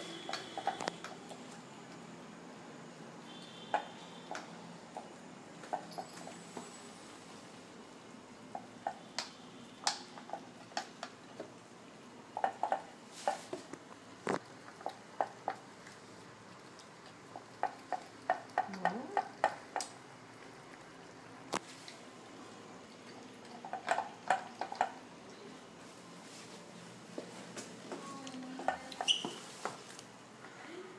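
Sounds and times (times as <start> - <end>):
kittens chewing and lapping food: 0.0 - 2.2, 3.3 - 30.6.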